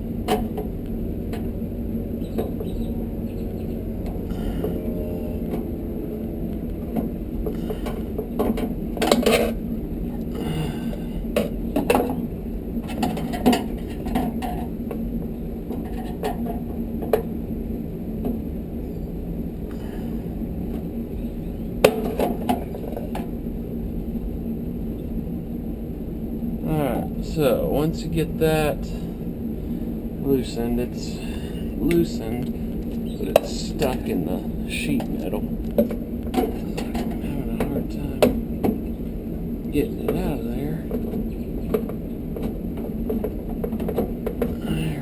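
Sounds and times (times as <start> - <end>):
low hum: 0.0 - 45.0.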